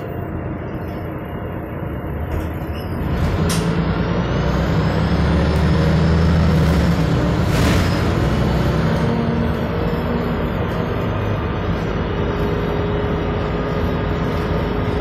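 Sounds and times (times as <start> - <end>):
bus diesel engine: 0.0 - 15.0
road noise: 0.0 - 15.0.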